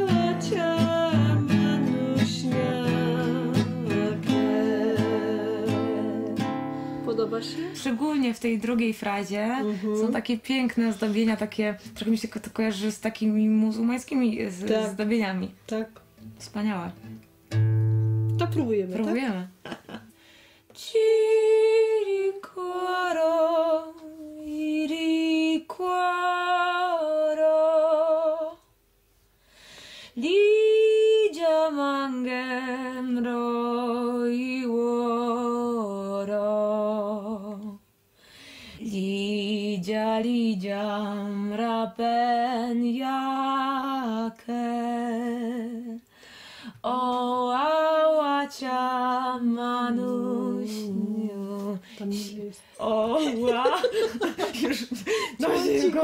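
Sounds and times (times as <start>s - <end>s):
woman singing unaccompanied: 0.0s - 16.0s, 20.7s - 28.8s, 30.2s - 37.8s, 38.8s - 46.1s, 46.8s - 56.0s.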